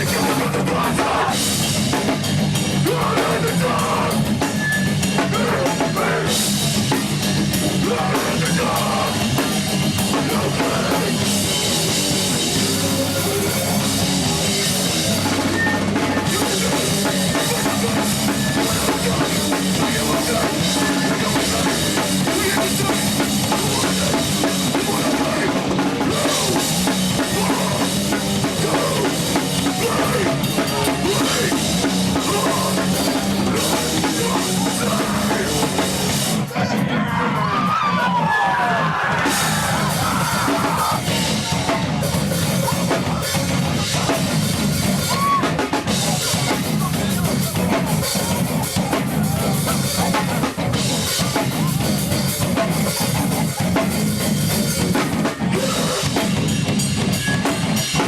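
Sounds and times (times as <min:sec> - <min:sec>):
heavy rock band playing live: 0:00.0 - 0:58.0.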